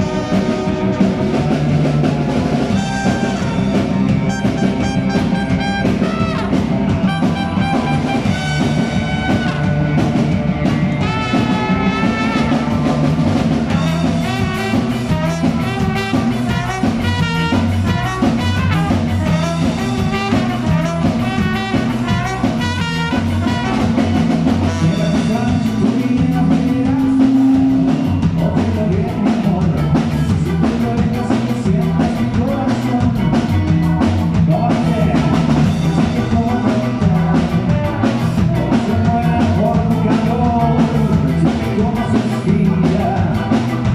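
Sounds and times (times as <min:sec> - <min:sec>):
band music with drums and bass: 0:00.0 - 0:43.9.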